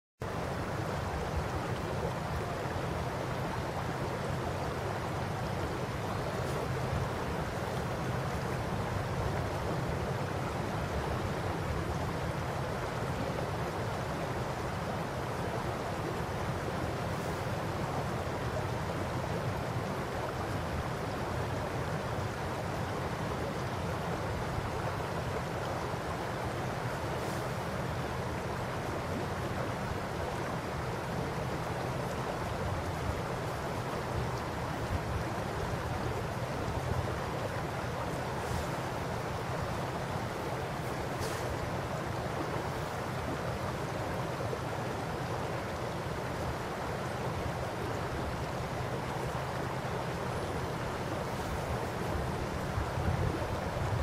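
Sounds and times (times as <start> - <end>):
shallow river babbling: 0.2 - 54.0.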